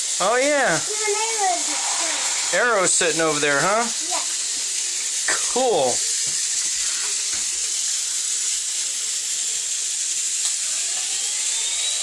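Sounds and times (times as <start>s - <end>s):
toy train motors hissing: 0.0s - 12.0s.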